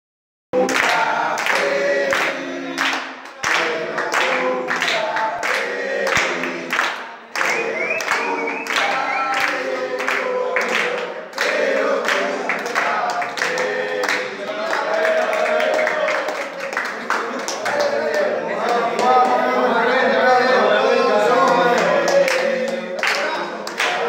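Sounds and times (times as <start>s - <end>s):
men singing in chorus: 0.6s - 6.8s, 7.4s - 16.2s, 17.3s - 24.0s
hand clapping: 0.6s - 19.3s, 21.8s - 24.0s.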